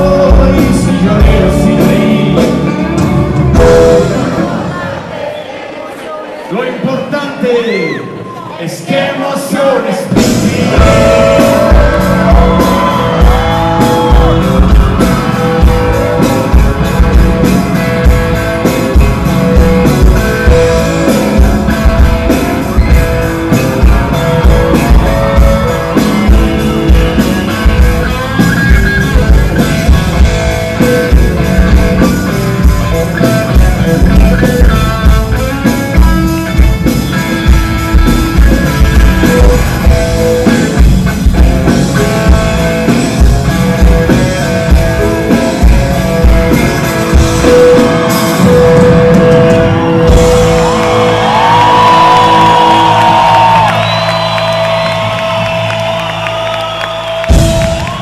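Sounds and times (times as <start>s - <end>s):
driving drum beat: 0.0s - 4.6s, 10.0s - 58.0s
electric guitars: 0.0s - 5.0s, 10.0s - 58.0s.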